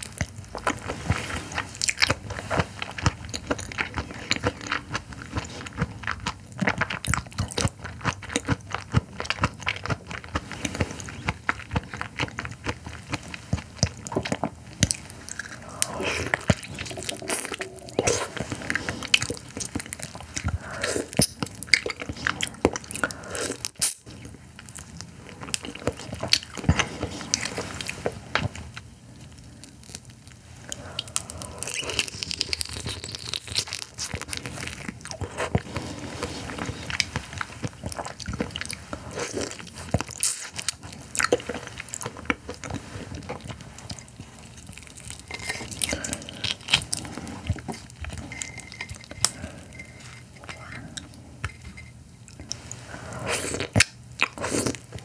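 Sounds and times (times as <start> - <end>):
chewing and crunching shrimp: 0.0 - 55.0.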